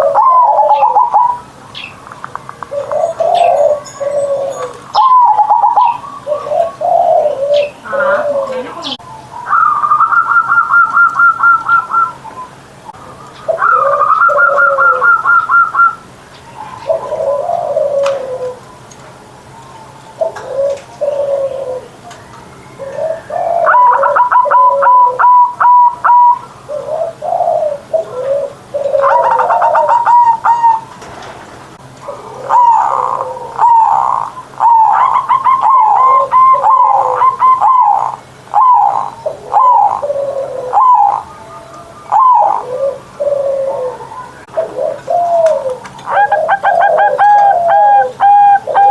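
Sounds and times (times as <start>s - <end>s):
dove cooing: 0.0s - 22.2s, 22.8s - 31.0s, 31.8s - 48.9s.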